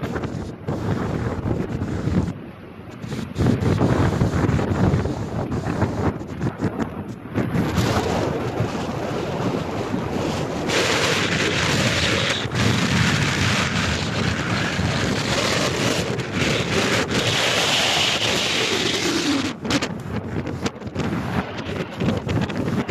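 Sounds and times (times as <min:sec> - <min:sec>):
waves washing onto shore: 0:00.0 - 0:22.9
wind buffeting microphone: 0:00.0 - 0:22.9.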